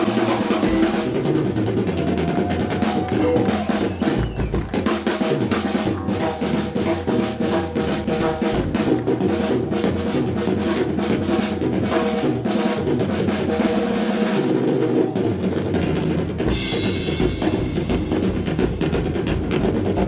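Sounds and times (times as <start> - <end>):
drum kit beat: 0.0 - 20.0
live band playing: 0.0 - 20.0.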